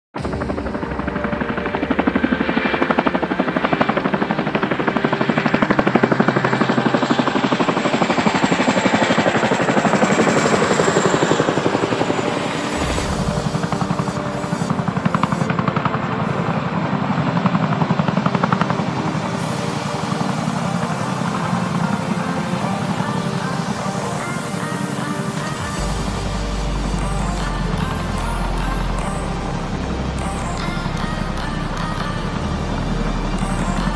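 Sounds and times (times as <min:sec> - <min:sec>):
helicopter rotor chop: 0:00.2 - 0:33.9.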